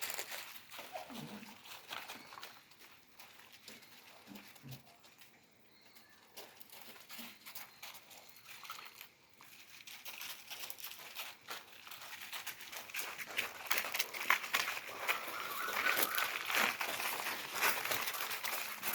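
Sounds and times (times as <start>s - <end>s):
puppies rustling and scratching: 0.0s - 18.9s.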